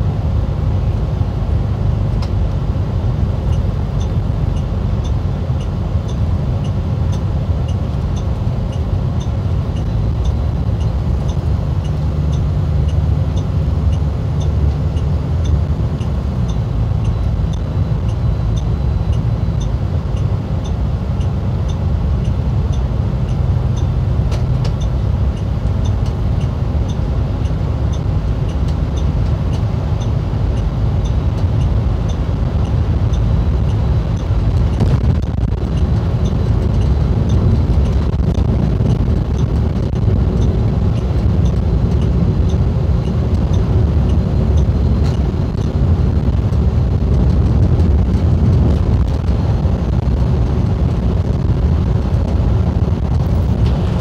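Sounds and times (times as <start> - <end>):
coach diesel engine drone: 0.0 - 54.0
road noise: 0.0 - 54.0
faint regular ticking: 3.5 - 50.3.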